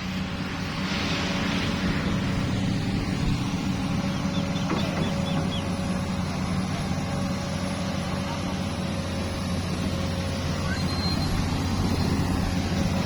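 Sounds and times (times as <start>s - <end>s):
heavy engine running: 0.0s - 13.0s.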